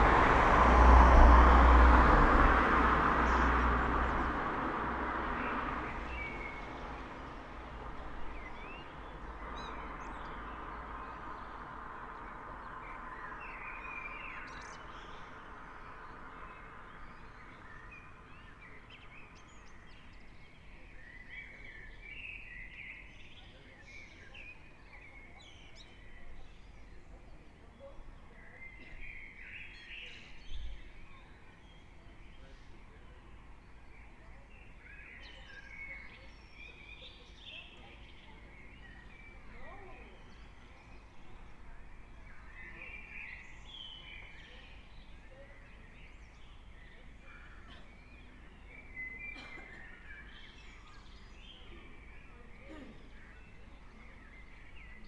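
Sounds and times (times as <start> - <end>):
distant traffic hum: 0.0 - 55.0
songbirds chirping and trilling: 0.0 - 55.0.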